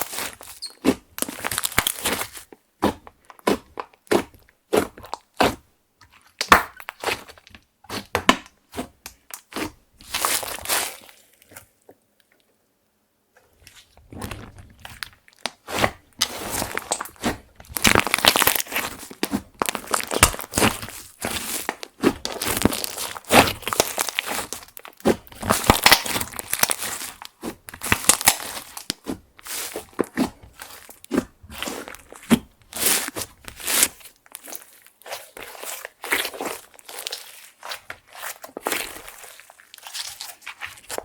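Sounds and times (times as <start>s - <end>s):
slime crackling and squelching: 0.0s - 11.8s, 13.4s - 41.0s.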